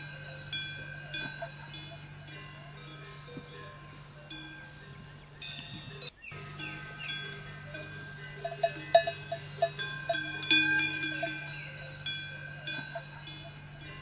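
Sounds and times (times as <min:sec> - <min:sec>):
bell-like ringing notes: 0:00.0 - 0:14.0
steady low hum: 0:00.0 - 0:14.0
sustained tones: 0:00.0 - 0:14.0.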